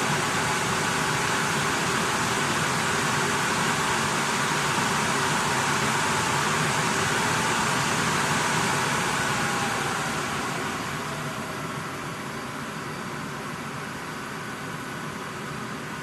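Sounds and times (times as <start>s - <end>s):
server cooling fans running: 0.0s - 16.0s.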